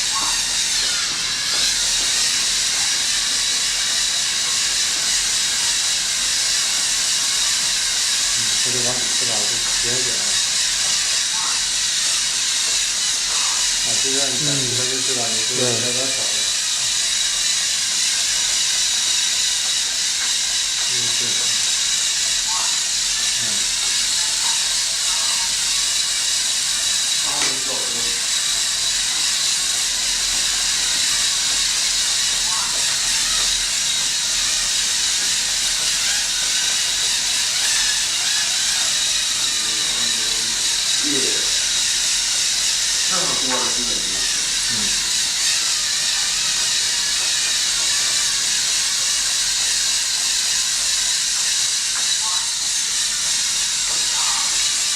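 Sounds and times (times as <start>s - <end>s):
robotic vacuum cleaner running: 0.0s - 54.9s.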